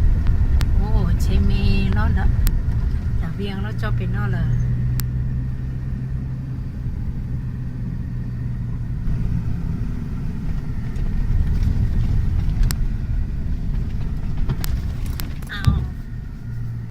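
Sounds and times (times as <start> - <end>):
vehicle engine rumble: 0.0 - 16.9.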